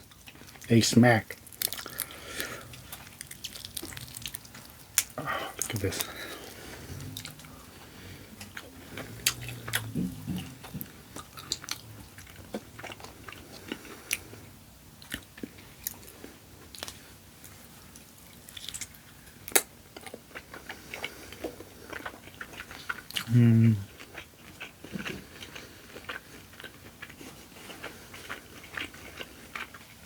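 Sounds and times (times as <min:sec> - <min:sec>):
person chewing food: 0:00.0 - 0:00.7, 0:01.3 - 0:30.0.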